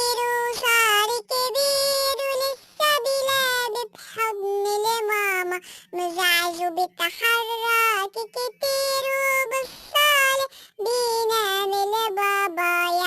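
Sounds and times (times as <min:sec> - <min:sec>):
child-like voice singing: 0:00.0 - 0:13.0.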